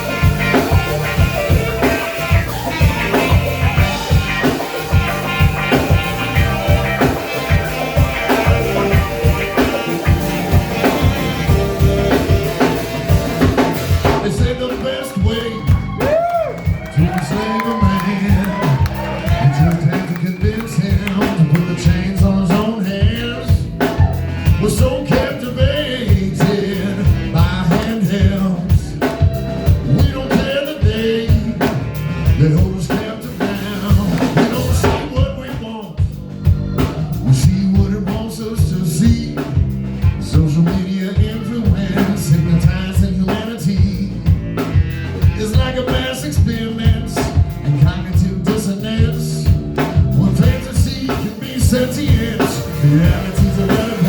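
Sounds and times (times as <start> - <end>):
bending melodic lead line: 0.0 - 39.3, 40.2 - 54.0
drum kit beat: 0.0 - 54.0
walking bass: 0.0 - 54.0.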